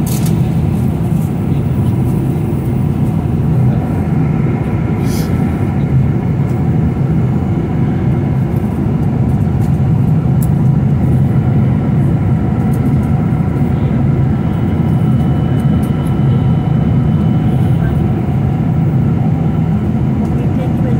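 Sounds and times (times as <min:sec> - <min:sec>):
airliner cabin drone: 0:00.0 - 0:20.9.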